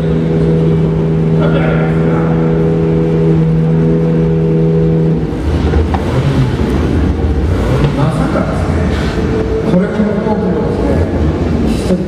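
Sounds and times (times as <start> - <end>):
car engine steady note: 0.0 - 12.0
low rough engine rumble: 0.0 - 12.0.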